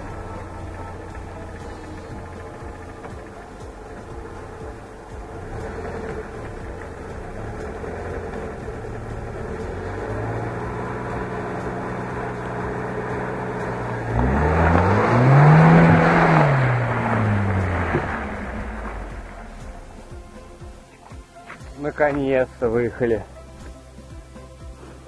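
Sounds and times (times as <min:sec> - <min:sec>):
car engine revving: 0:00.0 - 0:20.9.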